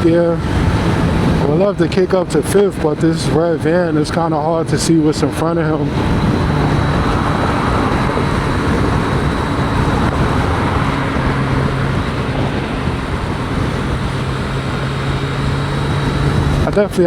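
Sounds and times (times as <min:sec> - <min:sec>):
motorcycle engine droning: 0:00.0 - 0:17.0
wind noise inside helmet: 0:00.0 - 0:17.0.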